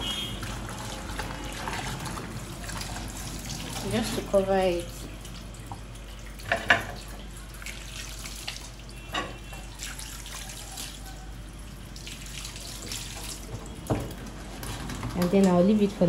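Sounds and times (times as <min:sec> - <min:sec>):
water running into a bowl: 0:00.0 - 0:15.8.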